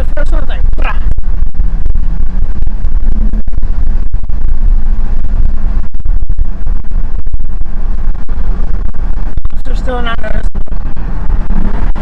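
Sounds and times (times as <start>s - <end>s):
car engine with exhaust drone: 0.0s - 12.0s.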